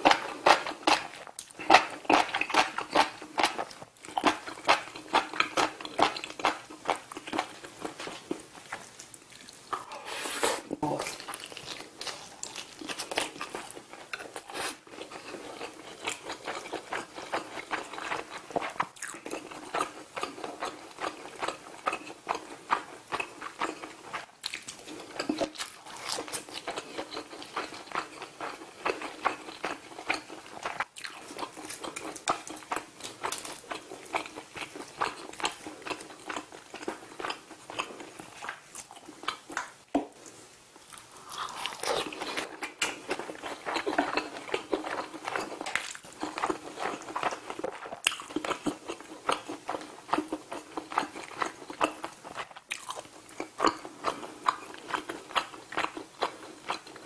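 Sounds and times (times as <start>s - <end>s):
biting and chewing food: 0.0s - 9.9s, 10.8s - 57.0s.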